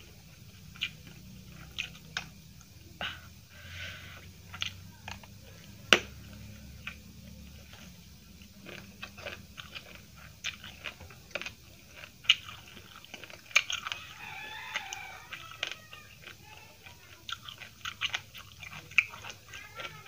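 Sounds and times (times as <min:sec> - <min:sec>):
person chewing: 0:00.0 - 0:20.0
raw cabbage crunching: 0:00.0 - 0:20.0.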